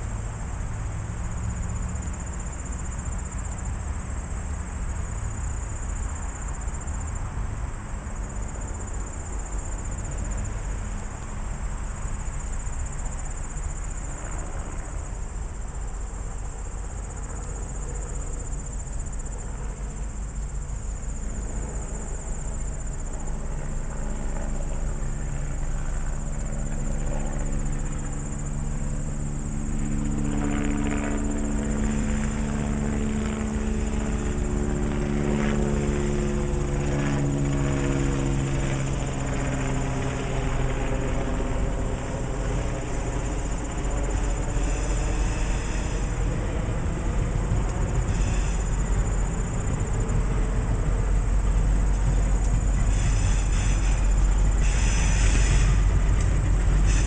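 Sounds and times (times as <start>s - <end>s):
diesel locomotive drone: 0.0s - 57.0s
insects chirping: 0.0s - 57.0s.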